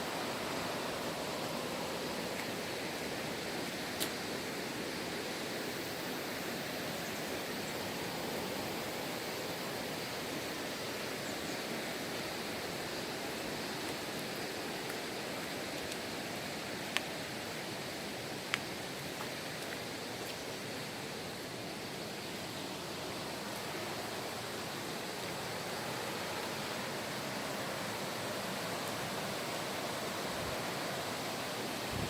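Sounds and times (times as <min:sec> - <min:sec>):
stream flowing over rocks: 0:00.0 - 0:32.0.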